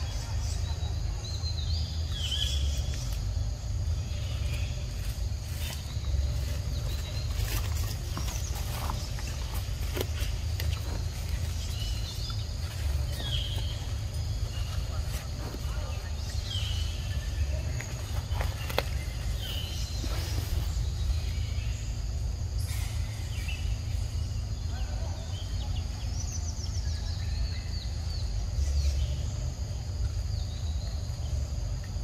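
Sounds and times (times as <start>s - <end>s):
insect drone: 0.0s - 32.0s.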